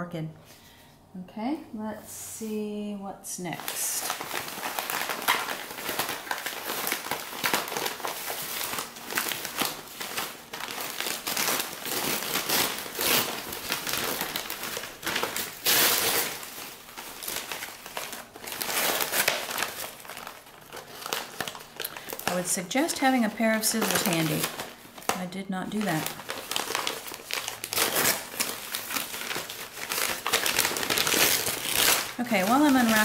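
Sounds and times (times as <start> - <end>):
newspaper crinkling and rustling: 3.5 - 33.0.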